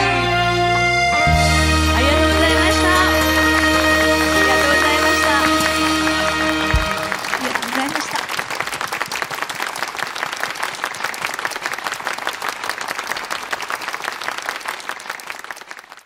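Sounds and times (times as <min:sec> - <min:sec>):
crowd applauding: 0:02.0 - 0:16.0.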